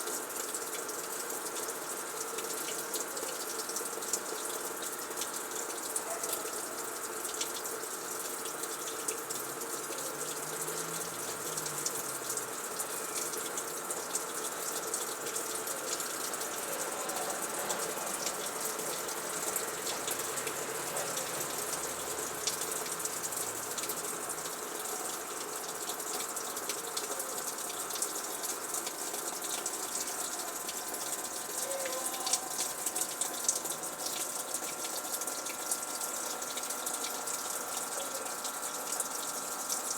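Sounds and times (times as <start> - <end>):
washing machine water rushing: 0.0 - 39.9.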